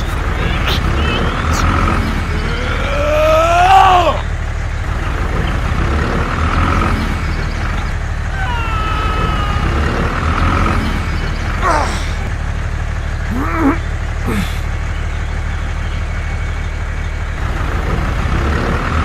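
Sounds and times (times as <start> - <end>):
tractor engine rumble: 0.0 - 18.9.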